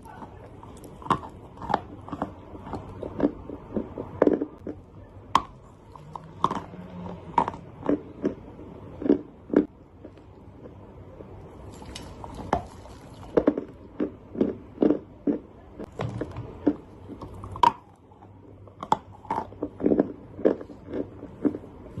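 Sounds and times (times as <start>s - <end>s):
person chewing crunchy clay: 0.0s - 22.0s.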